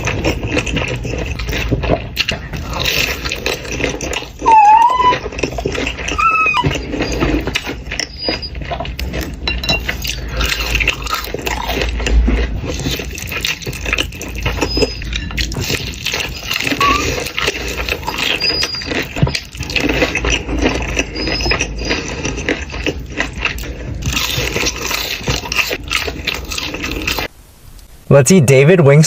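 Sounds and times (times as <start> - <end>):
chewing and wet mouth sounds: 0.0 - 27.3.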